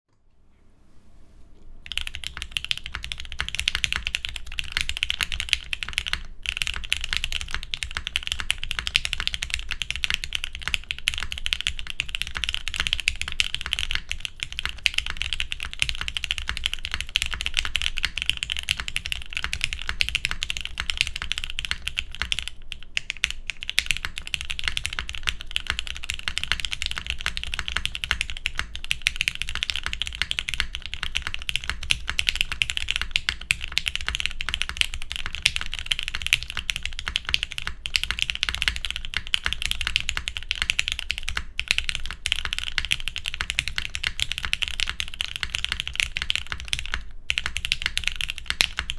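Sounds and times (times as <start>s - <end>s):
mechanical keyboard typing: 1.9s - 48.9s.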